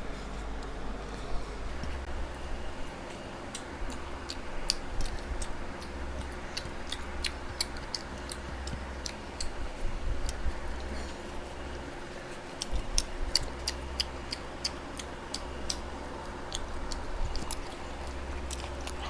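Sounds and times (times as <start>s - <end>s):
low steady hum: 0.0s - 19.0s
chewing clicks and smacks: 2.8s - 19.0s.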